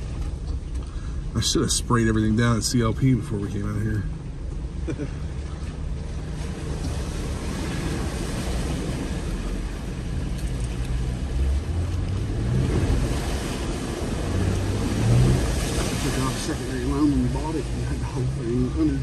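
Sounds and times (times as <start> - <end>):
car engine rumbling at low speed: 0.0 - 19.0.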